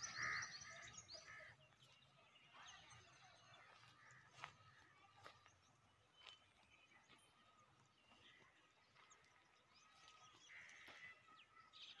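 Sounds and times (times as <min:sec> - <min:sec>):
distant bird calls: 0:00.0 - 0:12.0.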